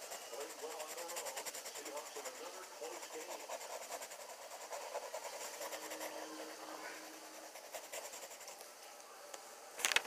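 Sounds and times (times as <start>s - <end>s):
pencil scratching on paper: 0.0s - 8.6s.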